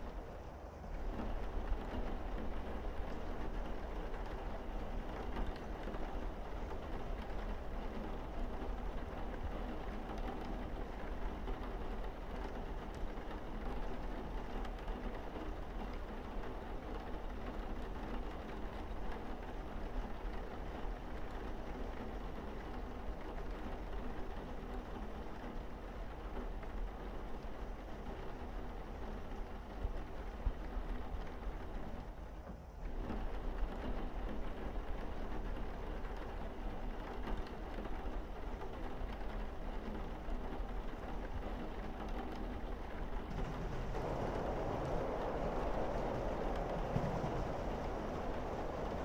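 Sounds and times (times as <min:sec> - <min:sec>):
rain on a roof: 0:00.0 - 0:49.0.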